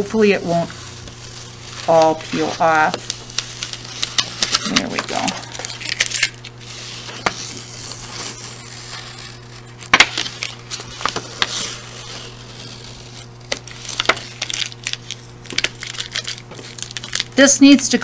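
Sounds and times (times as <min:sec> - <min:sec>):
tape crinkling and crackling: 0:00.0 - 0:17.5
tape peeling off paper: 0:00.5 - 0:17.4.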